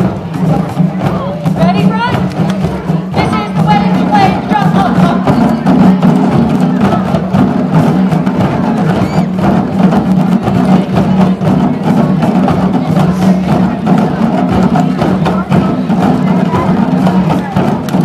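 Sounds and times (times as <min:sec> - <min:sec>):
djembe hand drums: 0:00.0 - 0:18.0.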